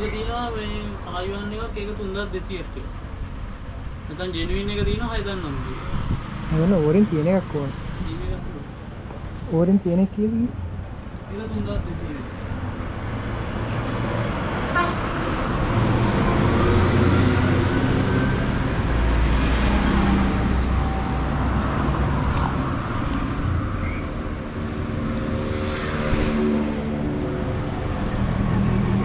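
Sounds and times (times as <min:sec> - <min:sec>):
traffic engines passing: 0:00.0 - 0:29.0.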